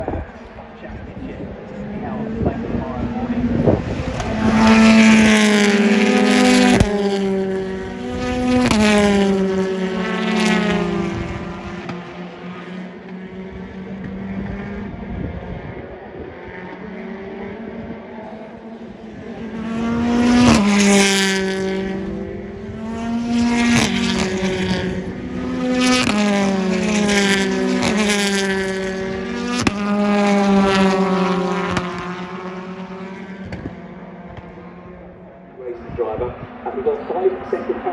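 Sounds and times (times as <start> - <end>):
distant car engines: 0.0 - 37.9
racing cars passing at speed: 0.0 - 37.9.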